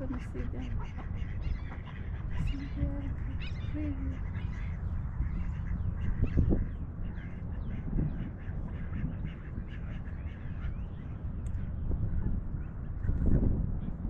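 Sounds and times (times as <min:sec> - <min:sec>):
ducks quacking: 0:00.0 - 0:13.4
steady low rumble: 0:00.0 - 0:14.0.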